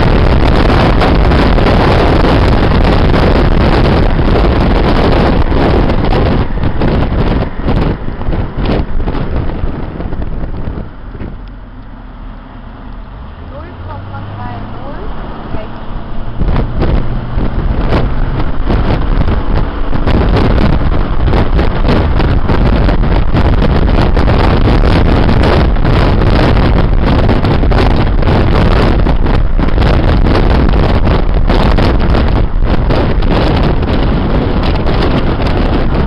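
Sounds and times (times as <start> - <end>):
car engine and road noise: 0.0 - 36.0
wind buffeting microphone: 0.0 - 36.0.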